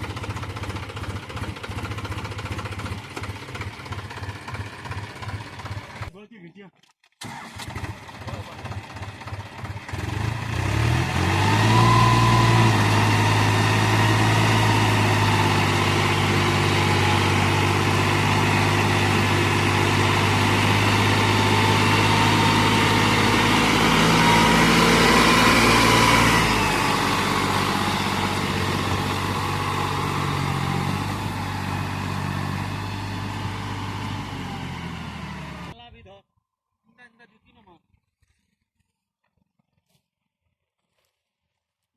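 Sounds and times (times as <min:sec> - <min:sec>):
tractor diesel engine revving: 0:00.0 - 0:06.1, 0:07.2 - 0:35.8.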